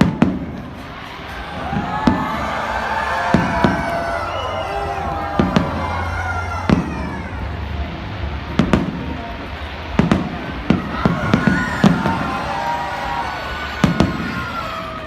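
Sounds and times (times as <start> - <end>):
fireworks bangs: 0.0 - 15.0
continuous background rumble: 0.2 - 14.5.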